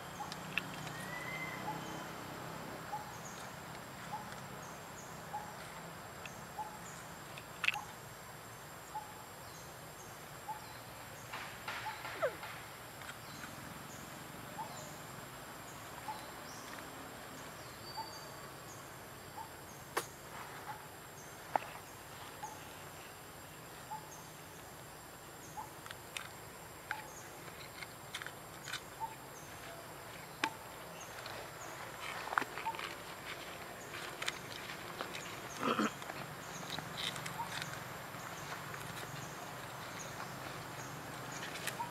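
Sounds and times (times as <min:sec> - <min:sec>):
steady forest hiss: 0:00.0 - 0:41.9.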